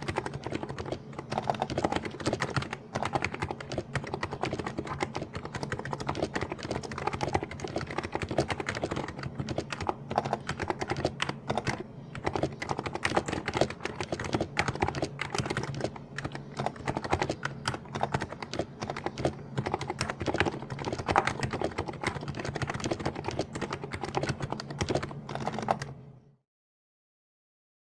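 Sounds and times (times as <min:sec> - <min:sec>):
fast keyboard typing: 0:00.0 - 0:26.0.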